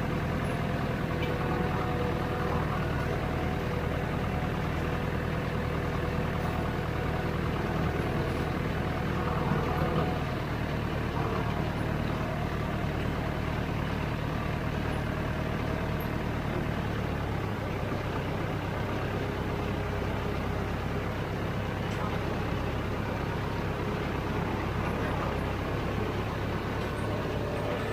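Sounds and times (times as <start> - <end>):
tractor engine droning: 0.0 - 27.9.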